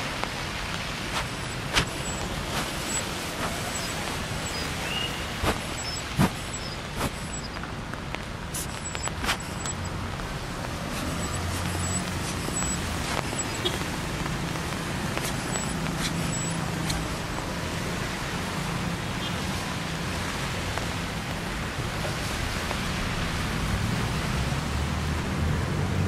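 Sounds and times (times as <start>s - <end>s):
sharp ticks: 0.0s - 22.8s
rain hissing: 0.0s - 25.2s
passing vehicles engine hum: 0.0s - 26.0s.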